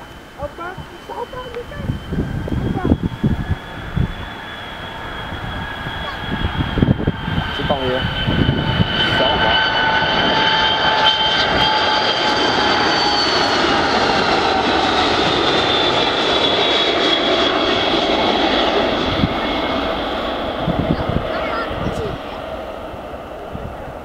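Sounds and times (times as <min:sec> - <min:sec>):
jet engines whining on flyby: 0:00.0 - 0:24.0.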